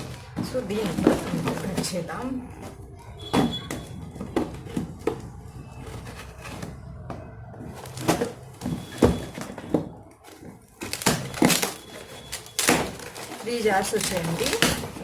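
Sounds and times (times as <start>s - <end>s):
cardboard box being unpacked: 0.0s - 15.0s.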